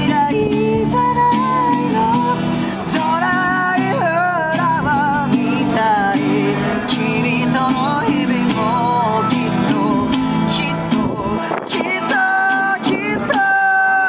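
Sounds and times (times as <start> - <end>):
person singing with vibrato: 0.0 - 14.0
strummed acoustic guitar: 0.0 - 14.0.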